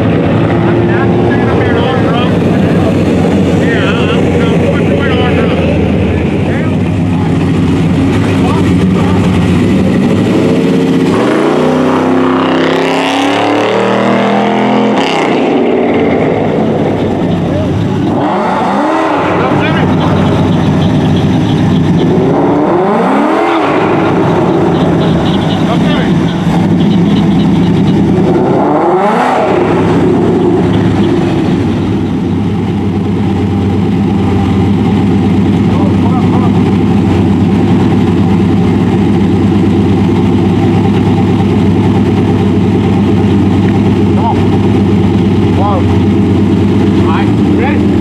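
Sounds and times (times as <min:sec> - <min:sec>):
performance car engine revving: 0:00.0 - 0:48.0.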